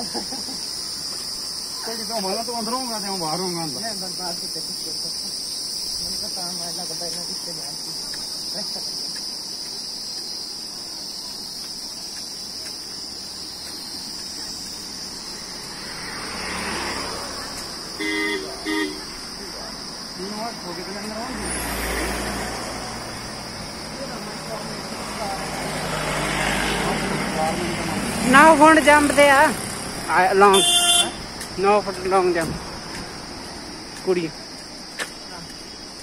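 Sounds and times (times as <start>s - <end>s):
people's voices: 0.0s - 15.7s, 17.0s - 35.7s
insects shrilling: 0.0s - 32.4s.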